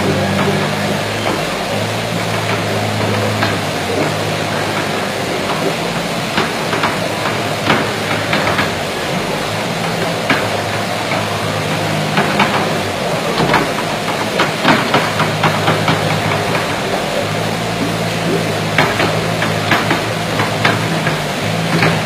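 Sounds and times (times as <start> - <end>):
loader engine hum: 0.0 - 22.0.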